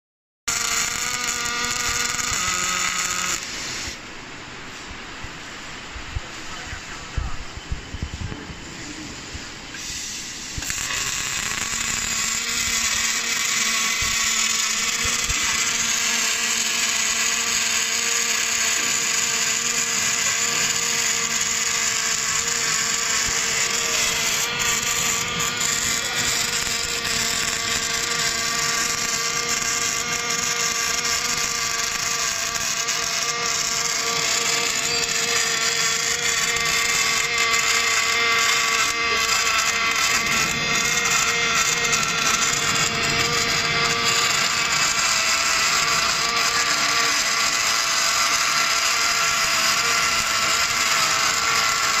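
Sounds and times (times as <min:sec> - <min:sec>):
pitched machine hum: 0:00.5 - 0:04.0, 0:10.5 - 0:52.0
welding arc hissing: 0:00.5 - 0:06.4, 0:08.8 - 0:52.0.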